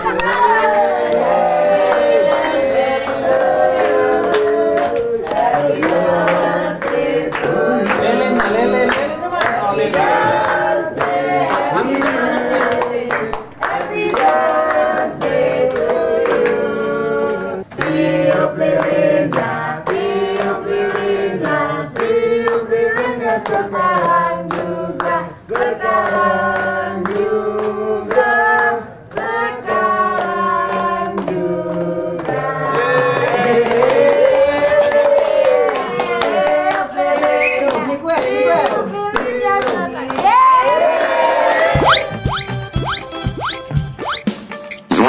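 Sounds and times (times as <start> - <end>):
group singing a celebration song: 0.0 - 42.6
people clapping in rhythm: 0.0 - 45.0.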